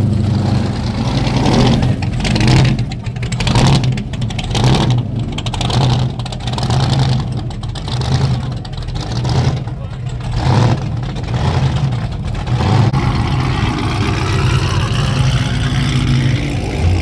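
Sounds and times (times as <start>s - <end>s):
muscle car engines running: 0.0s - 17.0s.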